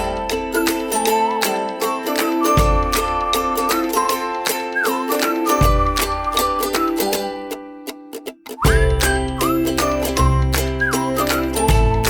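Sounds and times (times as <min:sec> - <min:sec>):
cheerful children's background music: 0:00.0 - 0:08.0, 0:08.6 - 0:12.0.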